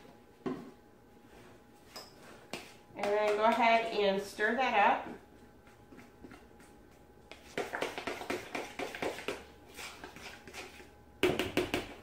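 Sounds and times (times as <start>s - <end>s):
batter stirred in mixing bowl: 2.2s - 12.0s.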